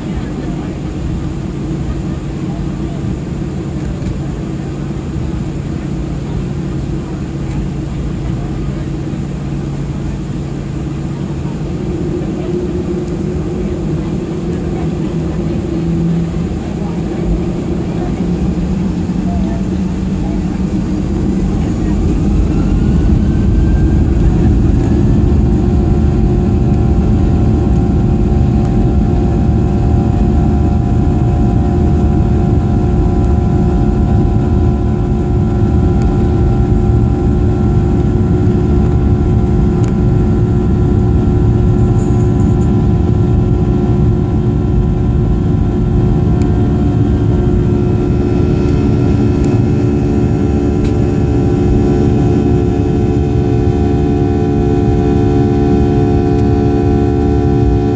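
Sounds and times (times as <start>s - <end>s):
jet engine whine: 0.0s - 57.9s
wheels rumbling on runway: 0.0s - 57.9s.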